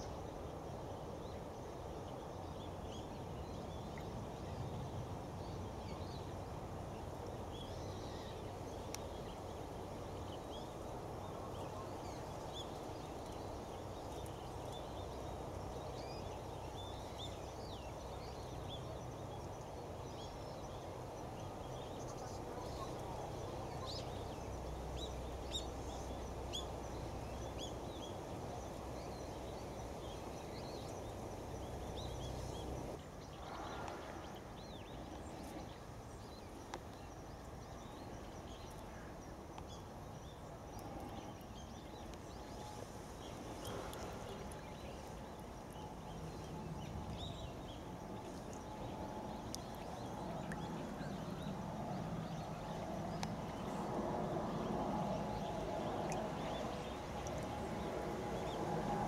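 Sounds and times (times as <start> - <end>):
riverside background noise: 0.0 - 59.0.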